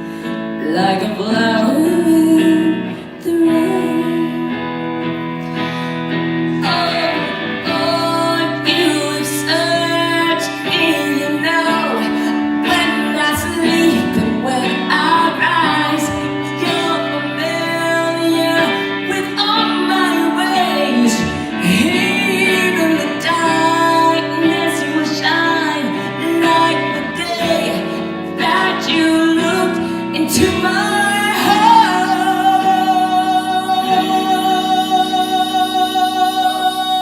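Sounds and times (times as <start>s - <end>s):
woman singing: 0.0s - 37.0s.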